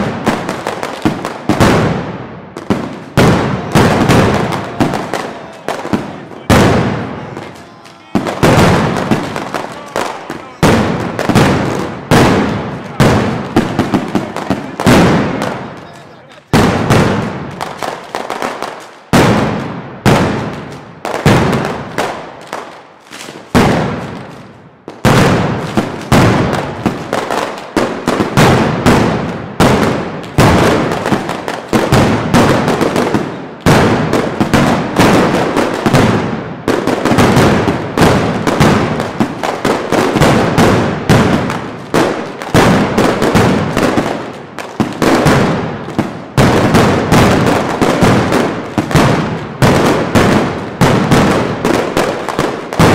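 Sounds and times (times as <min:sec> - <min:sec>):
firecrackers banging: 0:00.0 - 0:52.9.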